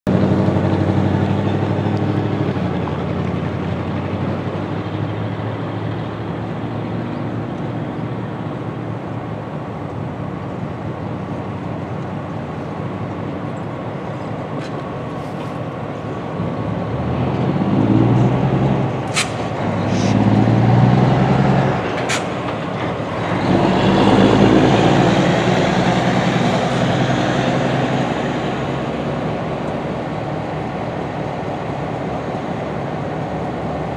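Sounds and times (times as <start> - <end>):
locomotive engines revving: 0.1 - 33.9.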